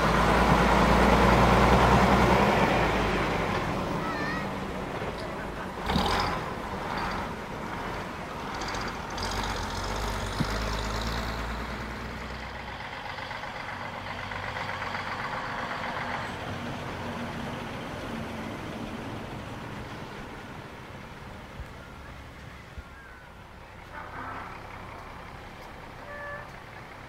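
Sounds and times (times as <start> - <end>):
bus engine droning: 0.0 - 27.0.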